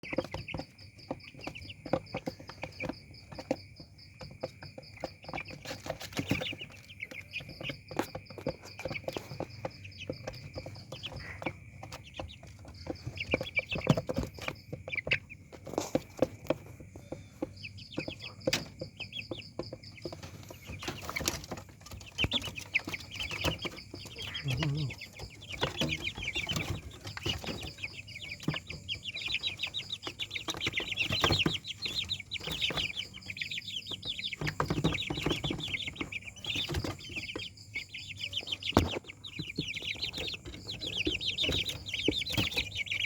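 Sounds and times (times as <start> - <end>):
sharp taps and knocks: 0.0 - 37.5
chicks peeping: 0.0 - 43.0.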